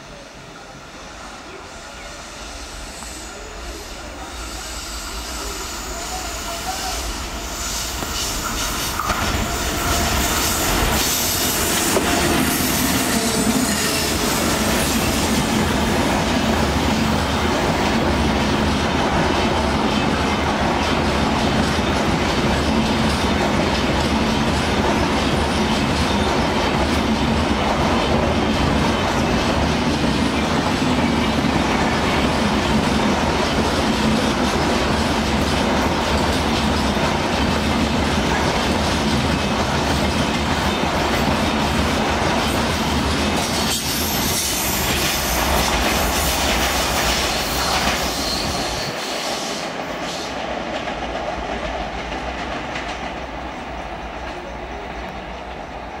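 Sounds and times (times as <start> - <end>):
train passing at speed: 0.0 - 56.0
train wheels rolling: 0.0 - 56.0.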